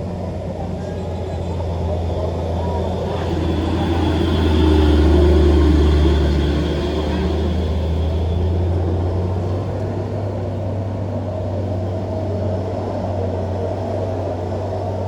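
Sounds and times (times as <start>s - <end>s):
heavy vehicle engine droning: 0.0s - 15.0s.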